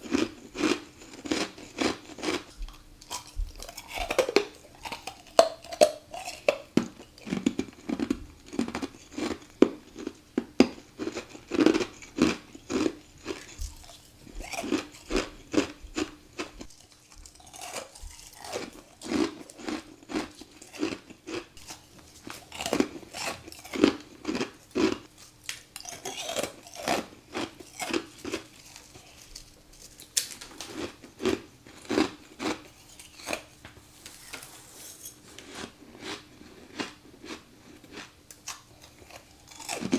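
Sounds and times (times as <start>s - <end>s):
chewing: 0.0s - 39.9s.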